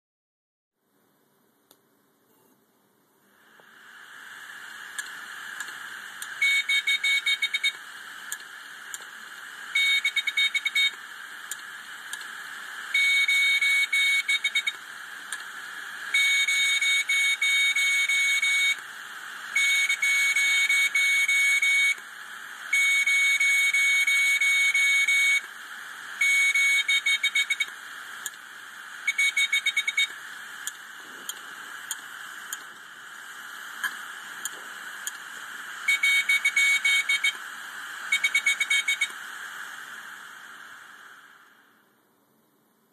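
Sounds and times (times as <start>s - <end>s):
hard drive platter whirring: 3.2s - 41.8s.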